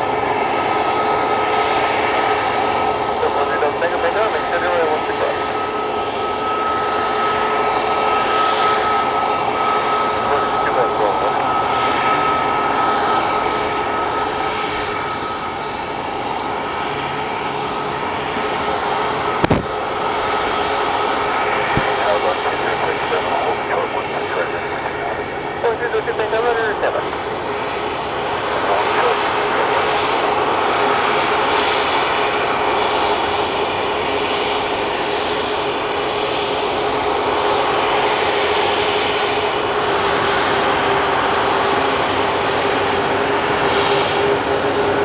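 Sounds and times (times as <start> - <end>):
jet engines running: 0.0 - 45.0
thin high engine whine: 0.0 - 45.0.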